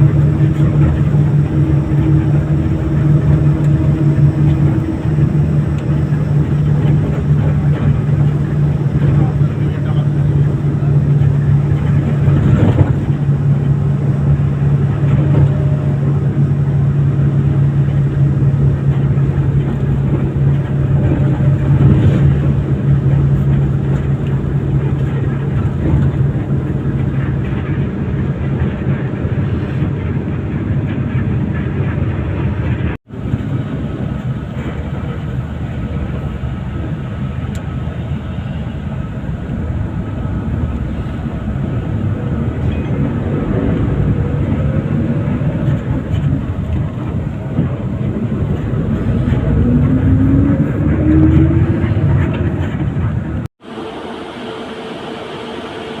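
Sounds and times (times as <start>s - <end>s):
low hum: 0.0s - 56.0s
road noise: 0.0s - 56.0s
vehicle engine drone: 0.0s - 56.0s.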